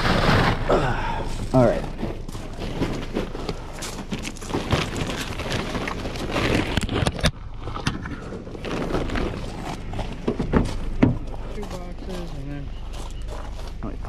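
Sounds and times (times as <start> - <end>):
plastic bag rustling: 0.0 - 13.8.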